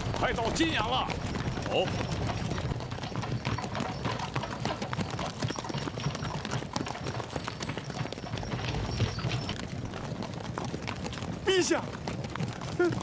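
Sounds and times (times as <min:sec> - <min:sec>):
hooves clip-clopping on dirt: 0:00.0 - 0:13.0.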